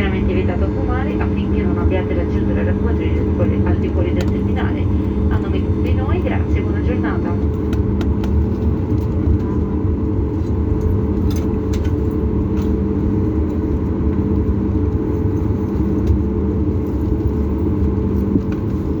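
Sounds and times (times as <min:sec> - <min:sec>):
aircraft cabin hum and rumble: 0:00.0 - 0:19.0.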